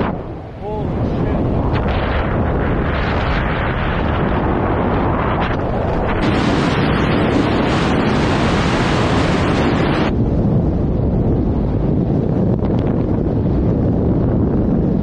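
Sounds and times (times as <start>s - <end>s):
wind buffeting a microphone: 0.0s - 15.0s.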